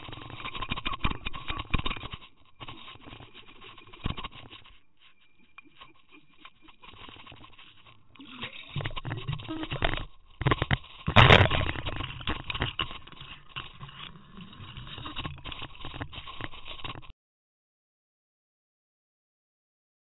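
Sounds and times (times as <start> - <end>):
rubbing and knocking of camera: 0.0 - 17.1.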